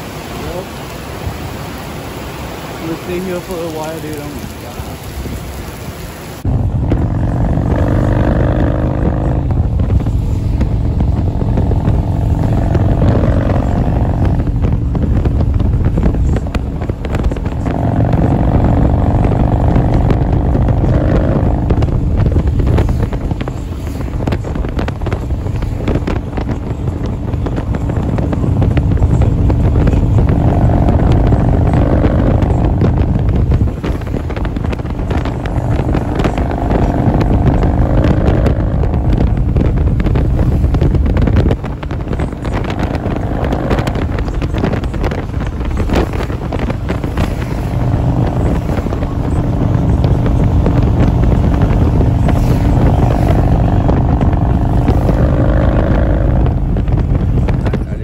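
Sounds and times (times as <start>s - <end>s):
wind buffeting the microphone: 0.0s - 58.0s
motorcycle engine running: 6.4s - 58.0s.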